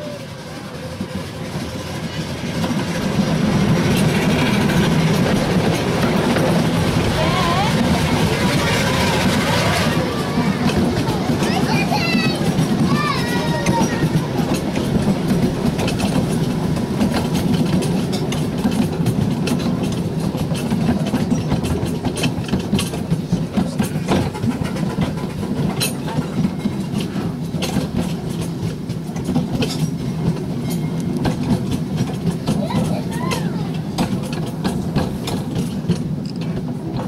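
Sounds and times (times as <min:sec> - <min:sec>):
miniature train running: 0:00.0 - 0:37.0
wheels clacking on rails: 0:00.0 - 0:37.0.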